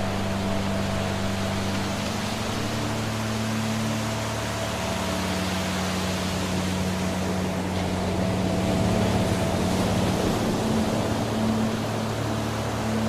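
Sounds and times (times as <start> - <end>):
low steady hum: 0.0 - 13.0
waterfall rushing: 0.0 - 13.0.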